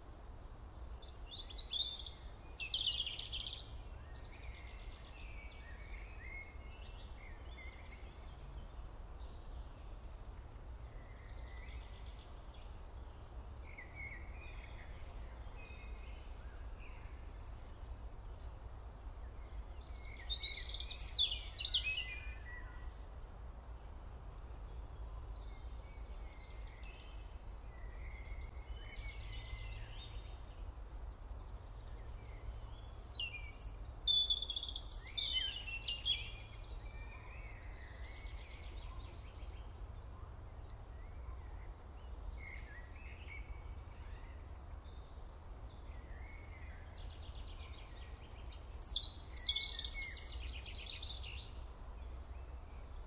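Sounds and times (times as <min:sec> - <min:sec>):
birds chirping: 0:00.3 - 0:39.9, 0:40.5 - 0:53.0.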